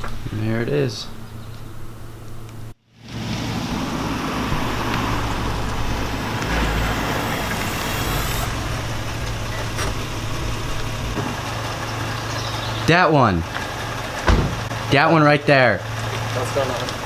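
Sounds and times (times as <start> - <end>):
car engine idling: 3.2 - 17.0.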